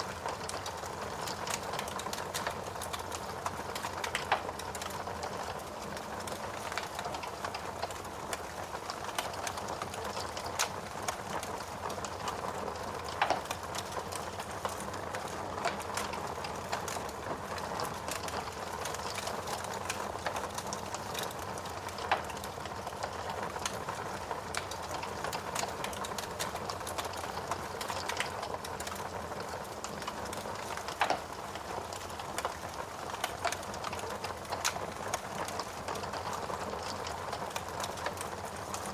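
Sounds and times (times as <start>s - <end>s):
steady rain: 0.0s - 38.9s
wood fire crackling and popping: 0.0s - 38.9s.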